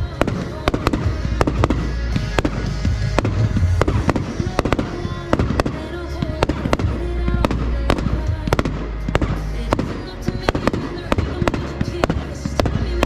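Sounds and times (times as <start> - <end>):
background music: 0.0 - 13.0
fireworks bangs: 0.0 - 13.0
low rumble: 0.0 - 13.0.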